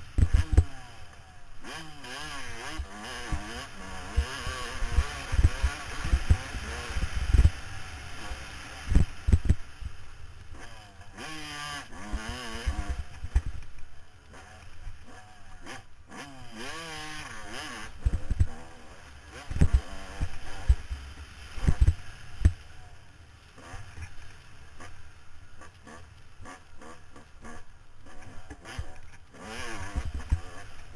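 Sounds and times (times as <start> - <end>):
dirt bike engine revving: 0.0 - 22.9, 23.5 - 30.9.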